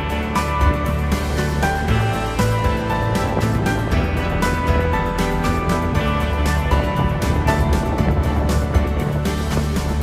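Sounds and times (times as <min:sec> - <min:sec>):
music with beat and guitar: 0:00.0 - 0:10.0.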